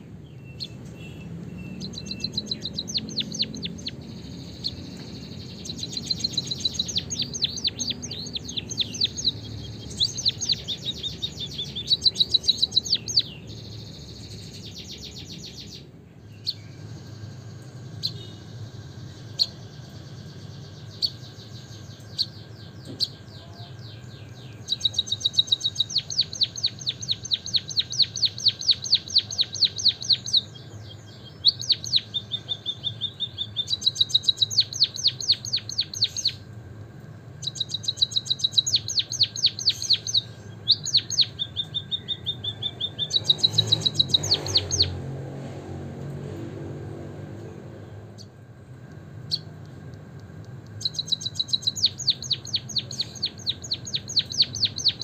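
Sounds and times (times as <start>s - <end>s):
bird chirping and trilling: 0.0s - 36.5s, 37.3s - 45.6s, 49.1s - 55.0s.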